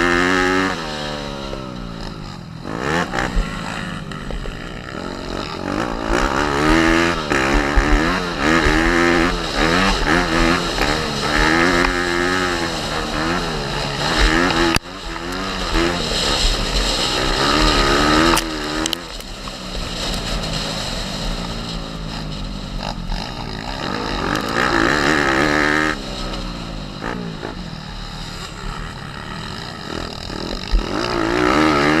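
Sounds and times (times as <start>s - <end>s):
motorbike engine revving: 0.0s - 32.0s.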